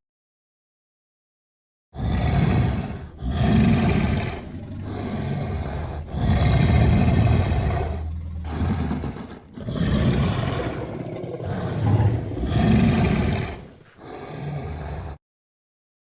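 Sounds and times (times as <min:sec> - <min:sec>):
low mammoth calls: 0:02.0 - 0:15.2.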